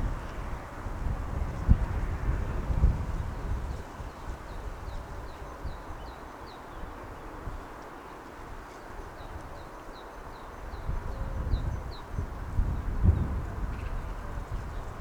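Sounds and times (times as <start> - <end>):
wind rumbling on microphone: 0.0 - 7.7, 8.5 - 15.0.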